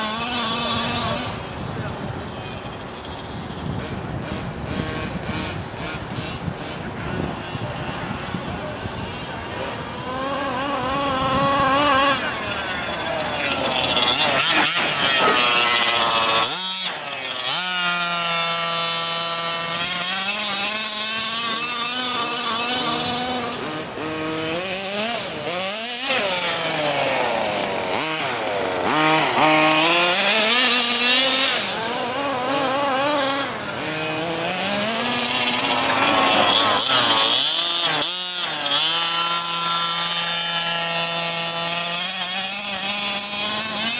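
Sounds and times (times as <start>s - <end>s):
model car engine revving: 0.0s - 43.9s.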